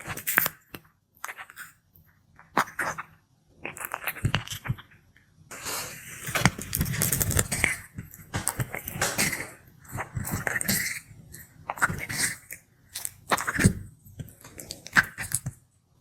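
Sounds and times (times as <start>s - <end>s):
tortoise chewing food: 2.4s - 15.6s.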